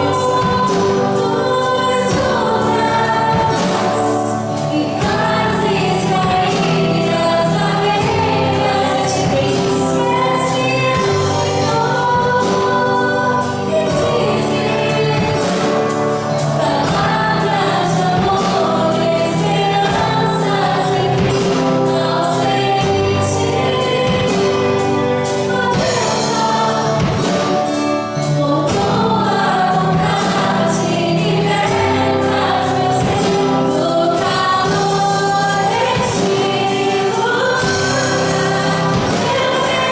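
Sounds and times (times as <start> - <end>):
band with steady drum beat: 0.0 - 39.9
choir singing in unison: 0.0 - 39.9.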